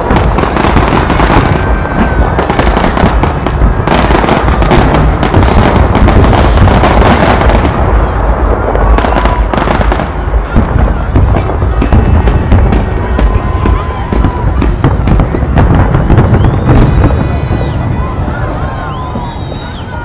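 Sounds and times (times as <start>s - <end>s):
firework bangs and crackles: 0.0s - 20.0s.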